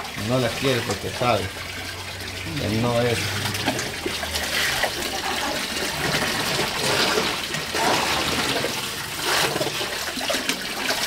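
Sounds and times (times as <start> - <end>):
tap water running into sink: 0.0 - 11.0
water sloshing and splashing: 0.0 - 11.0.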